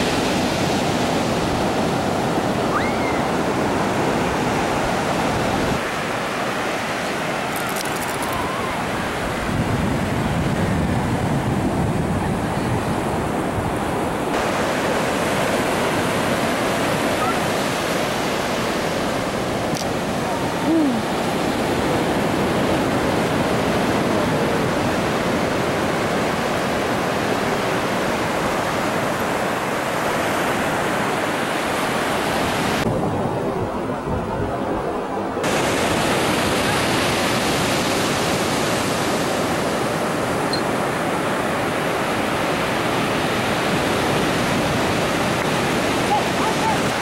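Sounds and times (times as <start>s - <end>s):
ocean surf breaking on beach: 0.0s - 47.0s.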